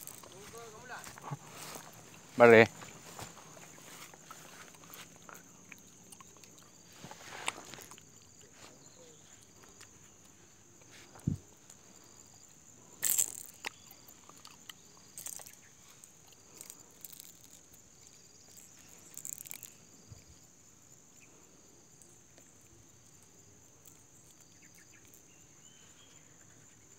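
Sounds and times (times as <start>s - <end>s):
insects chirring: 0.0s - 26.9s.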